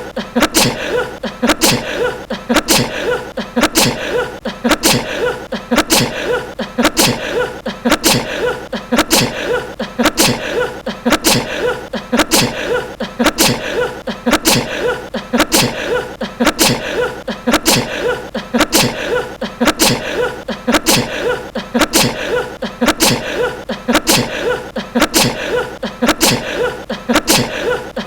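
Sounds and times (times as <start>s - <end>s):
man sneezing: 0.0s - 28.0s.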